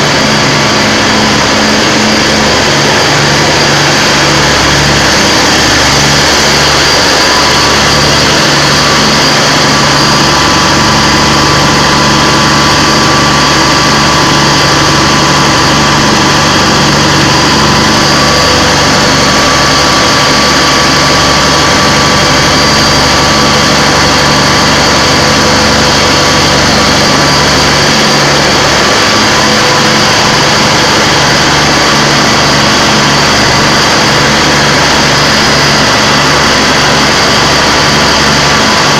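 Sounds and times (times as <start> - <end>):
engine running loudly: 0.0 - 38.9.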